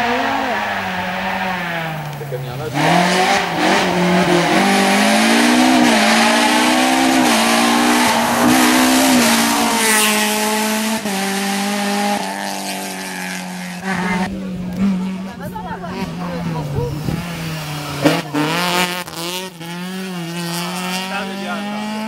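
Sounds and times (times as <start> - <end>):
rally car engine passing by: 0.0 - 22.0.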